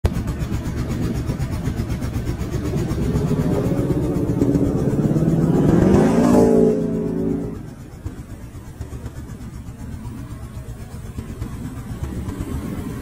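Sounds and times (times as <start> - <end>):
atv engine accelerating: 0.1 - 13.0.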